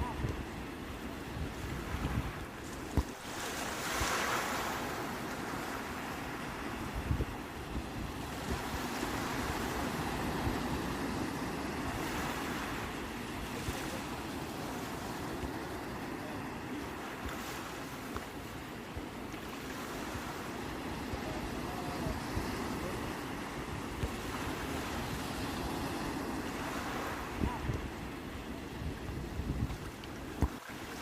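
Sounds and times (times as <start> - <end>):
wind buffeting microphone: 0.0 - 3.2, 6.2 - 17.5, 20.2 - 31.0
sea waves breaking on shore: 0.0 - 31.0.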